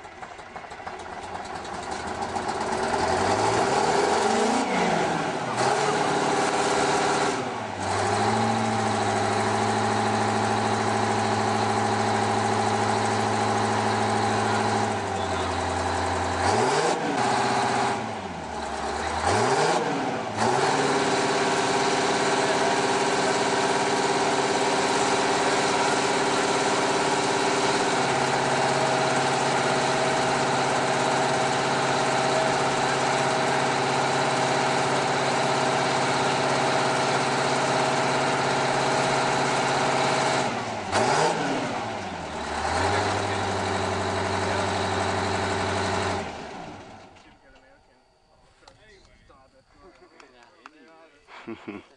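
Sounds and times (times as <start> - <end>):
diesel engine revving: 0.0 - 47.3.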